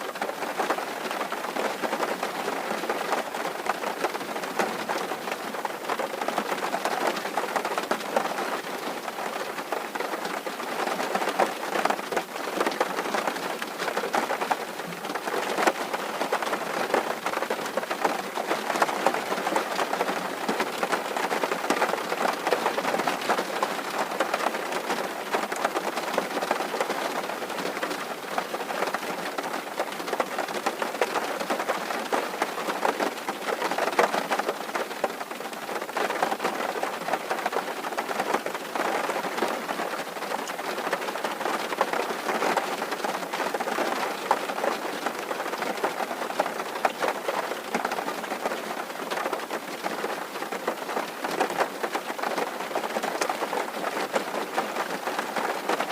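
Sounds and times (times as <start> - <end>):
rain on a tin roof: 0.0 - 55.9.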